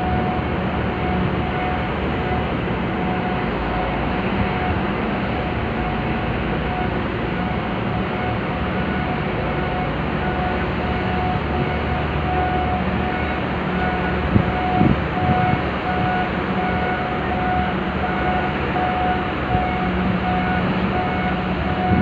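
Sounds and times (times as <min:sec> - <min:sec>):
electronic warning beep: 0:00.0 - 0:22.0
machinery drone: 0:00.0 - 0:22.0.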